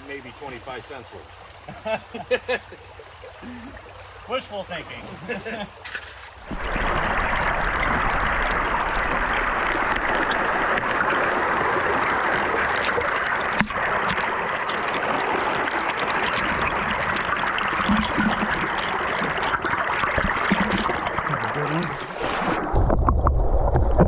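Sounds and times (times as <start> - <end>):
river water rushing: 0.0 - 22.7.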